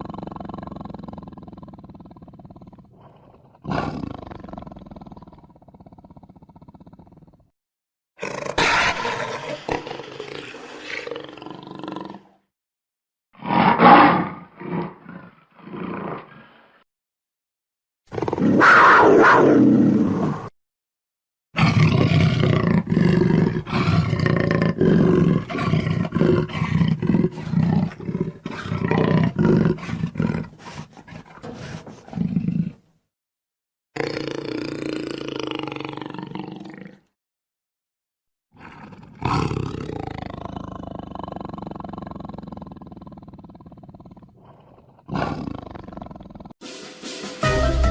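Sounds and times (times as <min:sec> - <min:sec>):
jaguar roaring and growling: 0:00.0 - 0:07.3, 0:08.2 - 0:12.4, 0:13.4 - 0:16.8, 0:18.1 - 0:20.5, 0:21.6 - 0:32.9, 0:34.0 - 0:37.1, 0:38.5 - 0:46.6.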